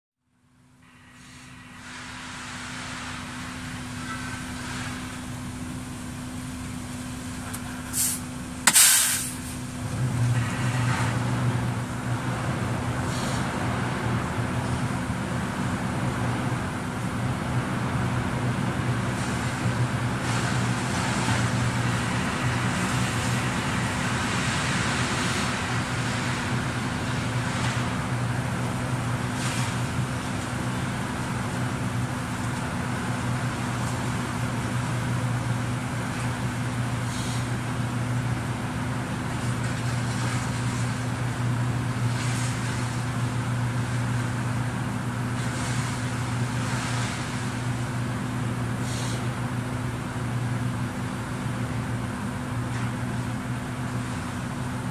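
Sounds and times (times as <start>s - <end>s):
diesel truck engine running: 0.3s - 54.9s.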